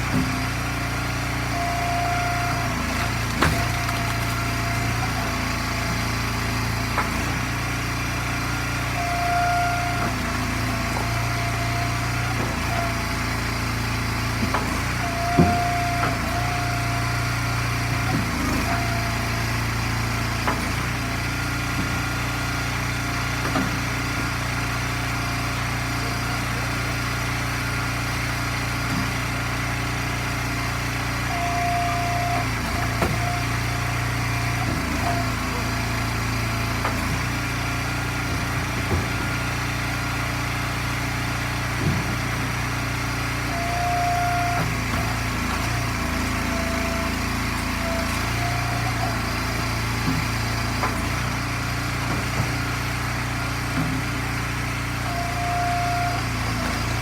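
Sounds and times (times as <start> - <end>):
log splitter engine running: 0.0 - 57.0.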